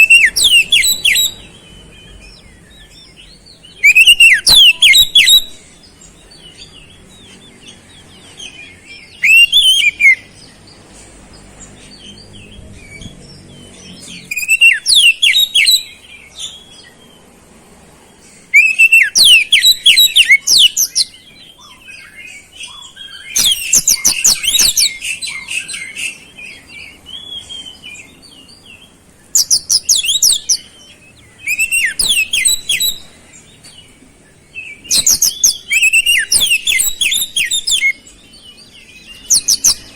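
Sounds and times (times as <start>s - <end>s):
songbird whistles and trills: 0.0s - 10.5s, 11.8s - 17.2s, 18.4s - 39.9s.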